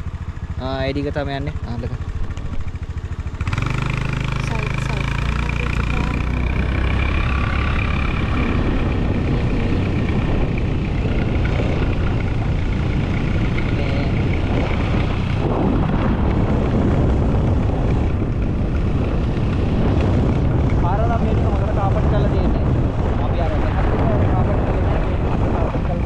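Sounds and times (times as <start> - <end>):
vehicle engine: 0.0 - 26.0.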